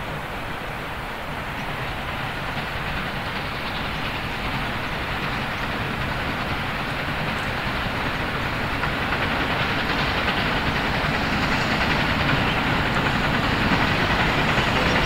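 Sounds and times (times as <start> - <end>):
steam locomotive exhaust: 0.0 - 15.0.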